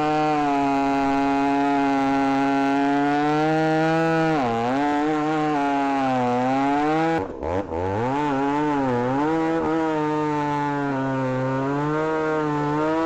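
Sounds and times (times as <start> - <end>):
chainsaw sawing wood: 0.0 - 13.0.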